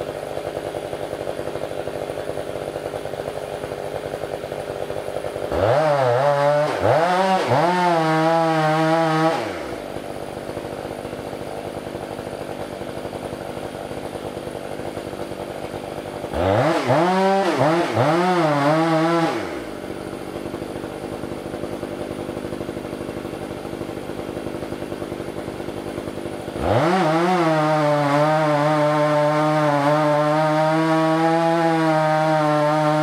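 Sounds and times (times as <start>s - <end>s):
chainsaw idling and revving: 0.0s - 33.0s.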